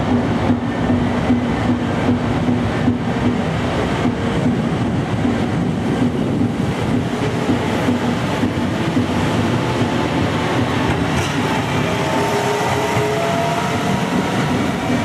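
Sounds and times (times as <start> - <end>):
diesel railcar engine rumble: 0.0 - 15.0.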